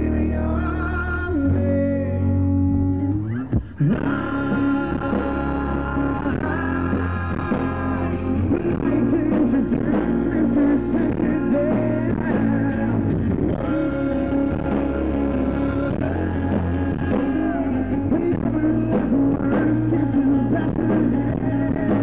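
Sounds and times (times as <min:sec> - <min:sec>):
male lead vocal singing: 0:00.0 - 0:02.5, 0:03.6 - 0:22.0
backing rock band: 0:00.0 - 0:22.0.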